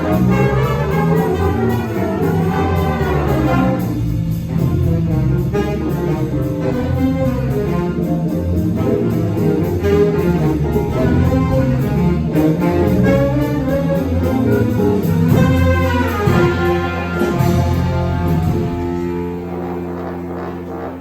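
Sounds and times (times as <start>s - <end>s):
jazz big band playing: 0.0s - 21.0s.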